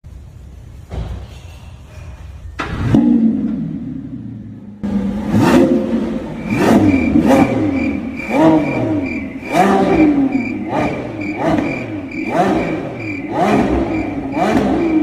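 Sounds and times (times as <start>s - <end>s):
car engine revving: 2.6s - 15.0s.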